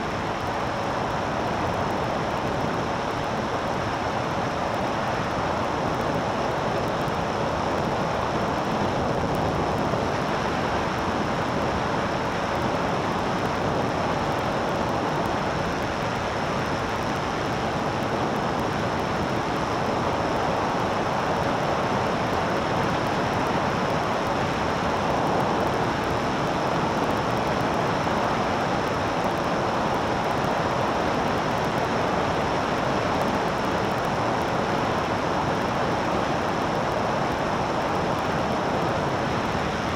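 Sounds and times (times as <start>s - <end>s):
aircraft engine and wind: 0.0s - 39.9s.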